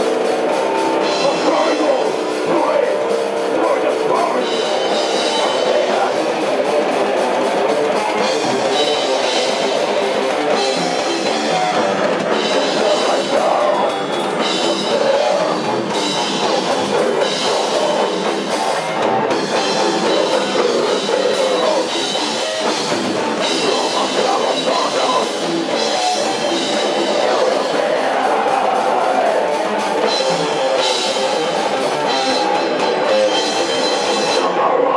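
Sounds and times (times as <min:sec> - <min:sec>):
rock music with drums: 0:00.0 - 0:34.9.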